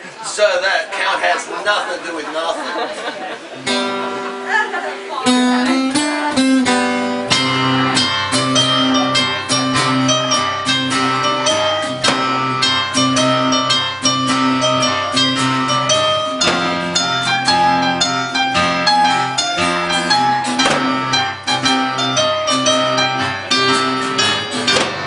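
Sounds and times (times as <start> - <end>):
acoustic guitar: 3.4 - 25.0
electric keyboard: 3.7 - 25.0.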